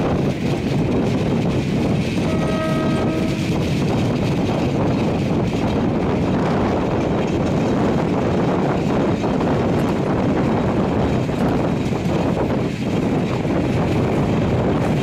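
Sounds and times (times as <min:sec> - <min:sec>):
train wheels rumbling on track: 0:00.0 - 0:15.0
wind: 0:00.0 - 0:15.0.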